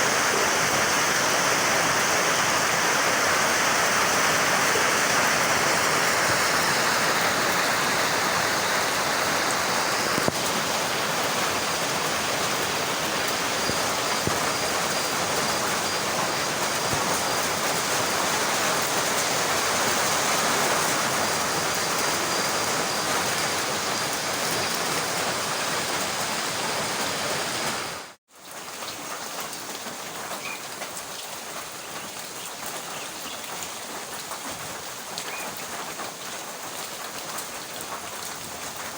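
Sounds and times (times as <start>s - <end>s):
heavy rain falling: 0.0s - 38.9s
raindrops pattering: 0.0s - 38.9s.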